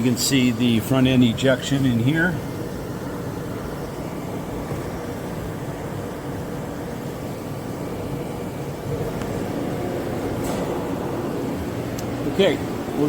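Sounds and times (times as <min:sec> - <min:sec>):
faint steady tones: 0:00.0 - 0:13.0
machine shop hum: 0:00.0 - 0:13.0.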